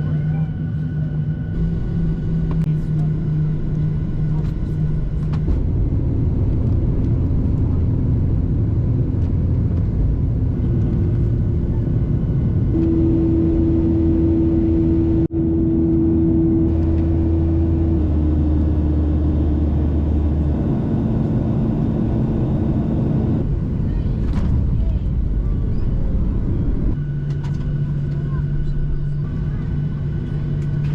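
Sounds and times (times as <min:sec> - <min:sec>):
vehicle rumble with stepping hum: 0:00.0 - 0:30.9.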